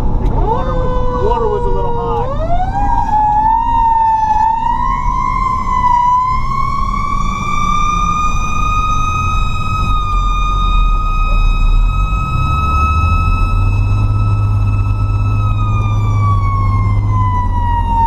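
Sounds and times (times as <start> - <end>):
truck engine rumble: 0.0 - 18.0.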